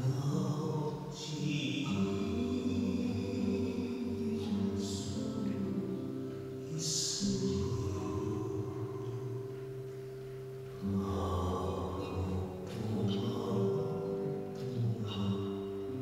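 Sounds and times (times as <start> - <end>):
slow music of held low tones: 0.0 - 16.0.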